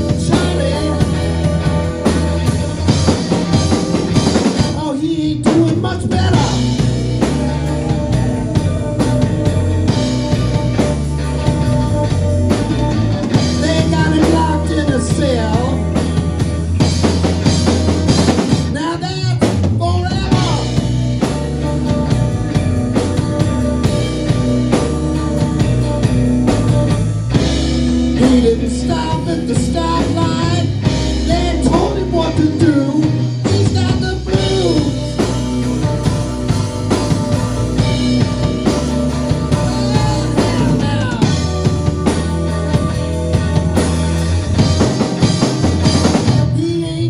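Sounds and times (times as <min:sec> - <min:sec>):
drum kit: 0:00.0 - 0:47.0
electric bass guitar: 0:00.0 - 0:47.0
electric guitar: 0:00.0 - 0:47.0.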